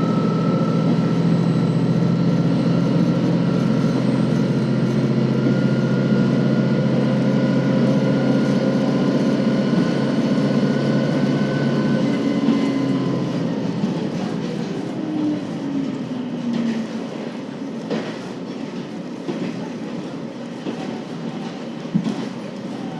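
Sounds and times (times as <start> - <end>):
railcar diesel engine: 0.0 - 22.9.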